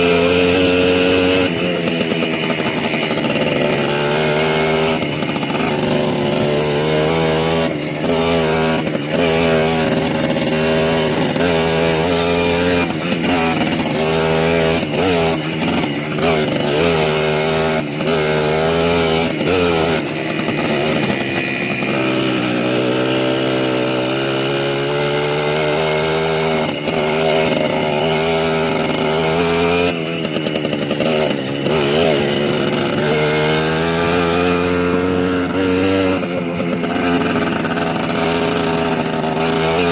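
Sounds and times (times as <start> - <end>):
small motorbike engines revving: 0.0 - 39.9.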